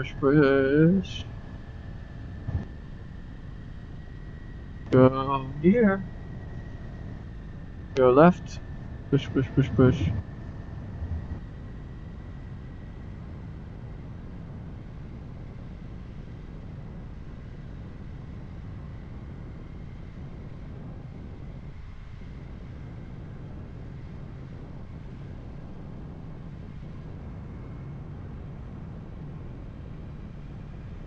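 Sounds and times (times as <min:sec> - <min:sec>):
wind noise on microphone: 0:01.3 - 0:05.0, 0:08.6 - 0:31.0.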